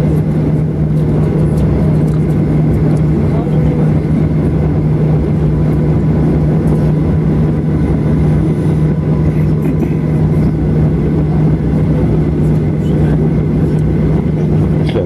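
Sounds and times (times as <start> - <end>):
aircraft cabin rumble: 0.0 - 15.0
steady engine hum: 0.0 - 15.0.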